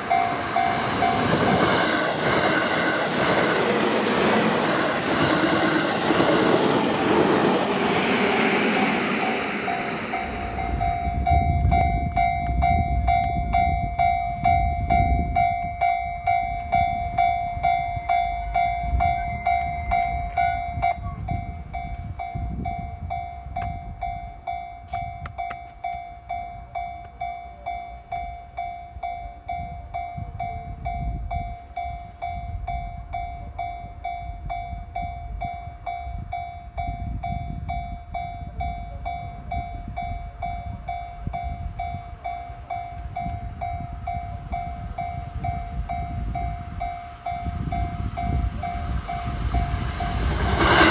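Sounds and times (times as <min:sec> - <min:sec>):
train running past rumbling: 0:00.0 - 0:50.9.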